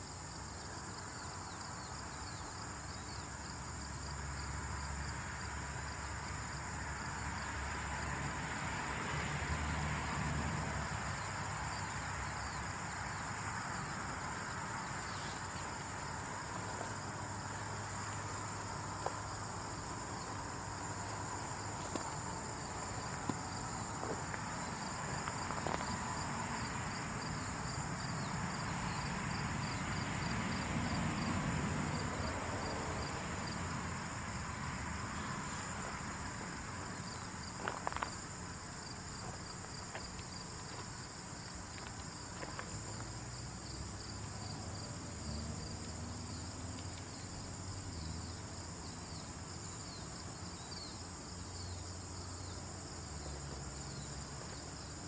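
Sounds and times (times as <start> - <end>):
high insect trill: 0.0 - 55.0
pulsed cricket chirps: 0.0 - 55.0.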